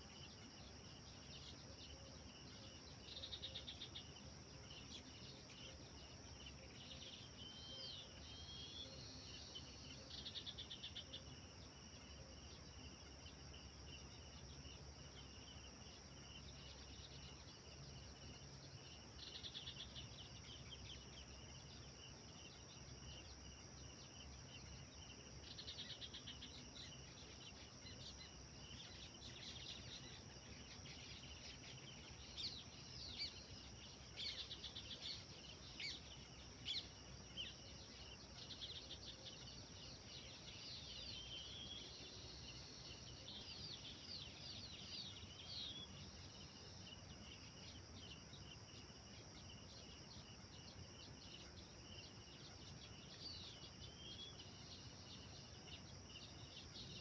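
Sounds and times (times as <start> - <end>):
high insect drone: 0.0 - 57.0
wild birds singing: 0.0 - 57.0.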